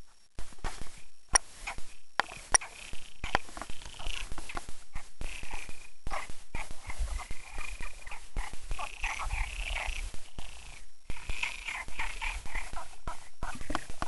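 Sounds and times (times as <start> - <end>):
frogs croaking: 0.8 - 14.0.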